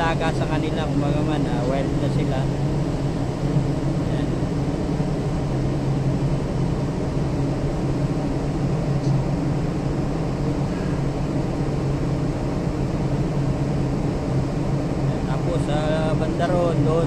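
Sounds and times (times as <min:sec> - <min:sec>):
heavy machinery drone: 0:00.0 - 0:17.0.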